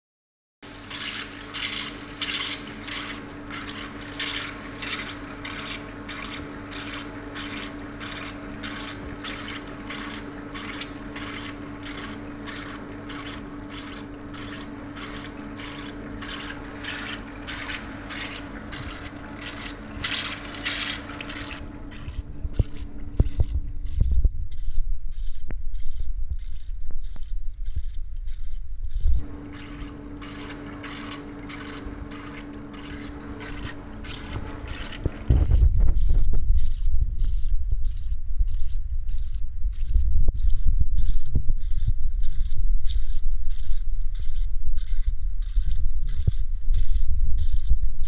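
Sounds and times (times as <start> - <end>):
electrical hum: 0.6 - 48.0
pulsing fluid hiss: 1.5 - 48.0.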